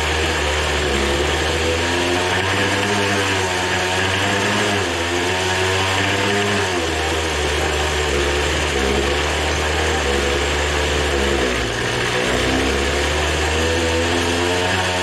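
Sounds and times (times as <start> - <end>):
small two-stroke engine buzzing: 0.0 - 15.0.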